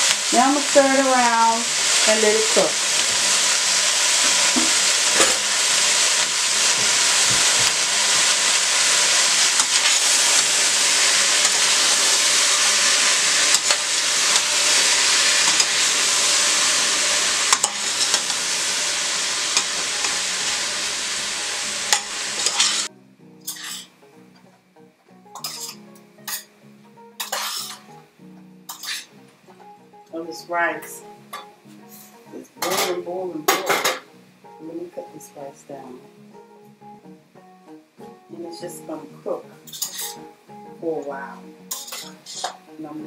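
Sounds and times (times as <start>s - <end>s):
vegetables sizzling in a pot: 0.0s - 24.2s, 25.2s - 36.0s, 36.8s - 43.0s.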